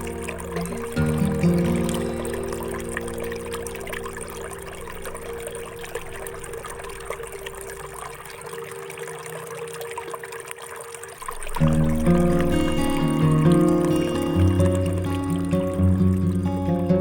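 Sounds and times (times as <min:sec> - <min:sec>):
held background music tones: 0:00.0 - 0:17.0
water trickling: 0:00.0 - 0:17.0.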